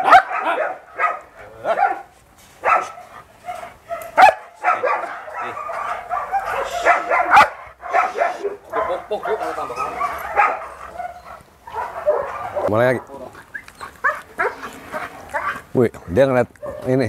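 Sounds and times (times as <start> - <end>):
dog barking: 0.0 - 13.2, 14.0 - 15.6, 16.6 - 16.9.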